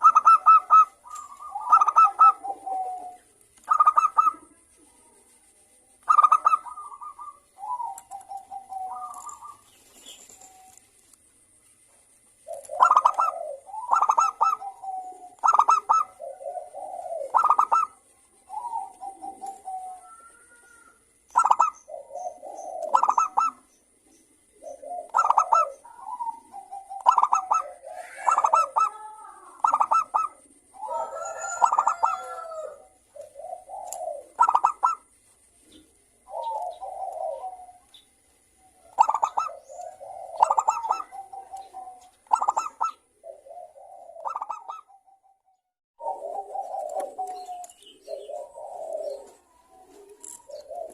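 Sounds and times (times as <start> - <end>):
doves cooing: 0.0 - 5.4, 6.0 - 45.4, 46.0 - 50.9.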